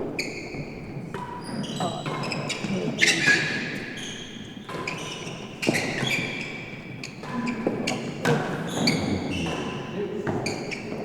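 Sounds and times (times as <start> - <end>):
shoes squeaking on court floor: 0.0 - 11.0.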